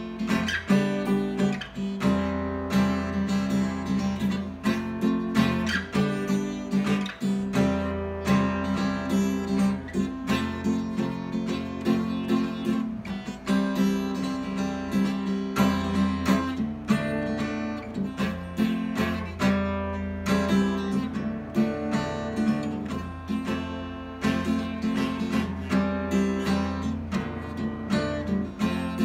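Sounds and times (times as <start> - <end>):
acoustic guitar playing chords: 0.0 - 29.0.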